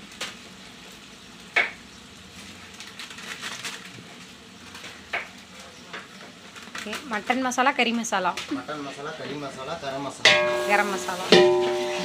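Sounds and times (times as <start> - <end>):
shallots sizzling in oil: 0.0 - 12.0.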